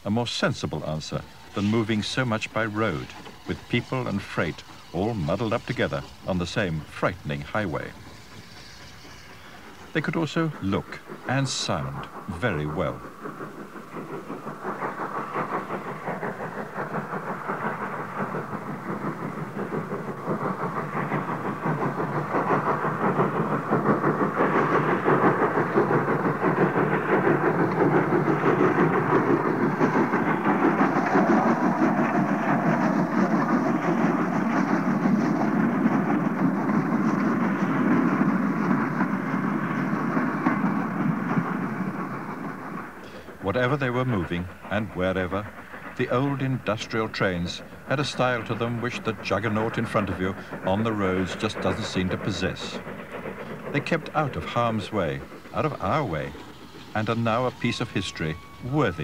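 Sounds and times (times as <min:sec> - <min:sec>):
steam locomotive exhaust beats: 0:00.0 - 0:59.0
wagons rattling along track: 0:00.0 - 0:59.0.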